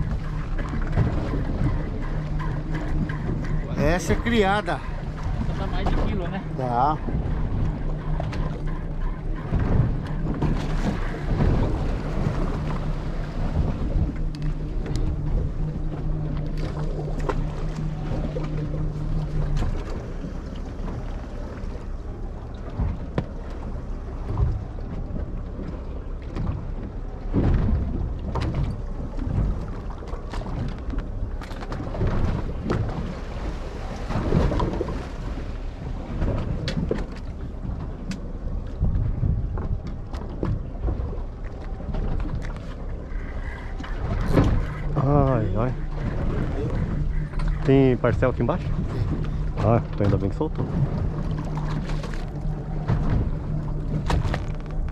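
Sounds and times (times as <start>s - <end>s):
boat motor hum: 0.0s - 54.9s
wind rumbling on microphone: 0.0s - 54.9s.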